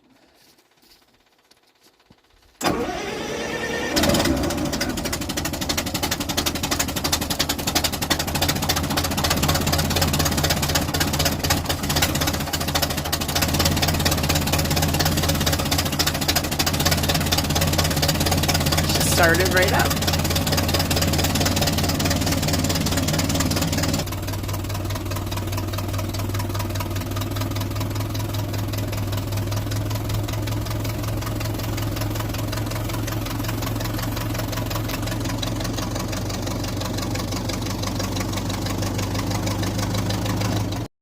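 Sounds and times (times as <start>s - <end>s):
car engine idling: 0.4s - 40.9s.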